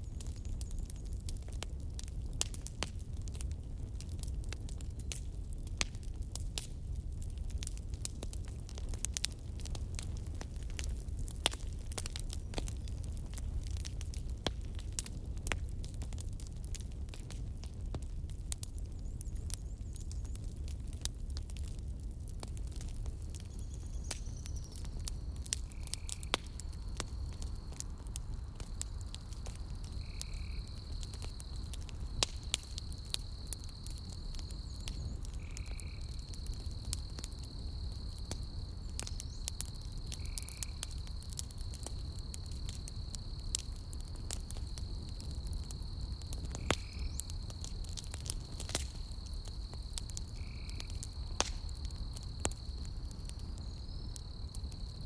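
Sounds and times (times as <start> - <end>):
campfire low rumble: 0.0 - 55.0
crackles and pops of burning logs: 0.0 - 55.0.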